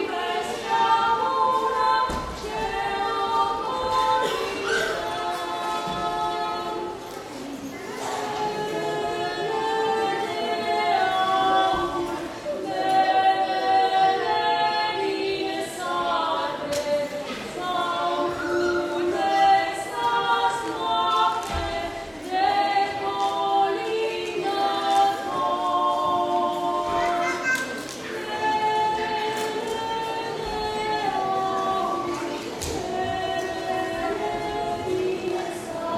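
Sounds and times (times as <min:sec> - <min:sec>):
two women singing: 0:00.0 - 0:35.9.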